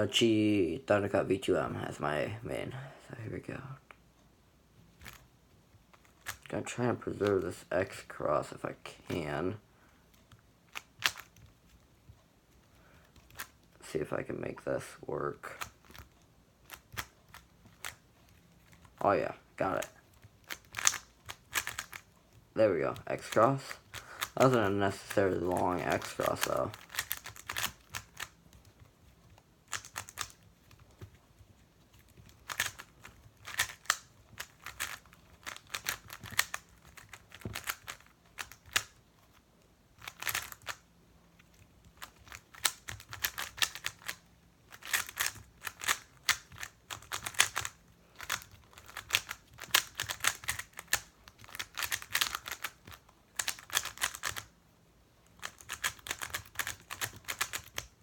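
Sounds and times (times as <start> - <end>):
puzzle cube clicking turns: 4.9 - 6.5, 10.0 - 13.8, 15.4 - 19.0, 19.6 - 54.6, 55.2 - 58.0.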